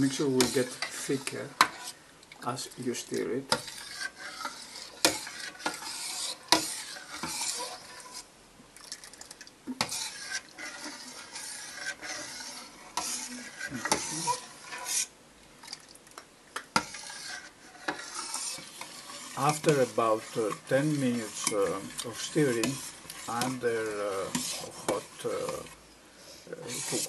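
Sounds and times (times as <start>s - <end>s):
spoon scraping steel pot: 0.0s - 2.0s, 2.6s - 8.3s, 9.7s - 15.1s, 16.7s - 25.8s, 26.6s - 27.0s.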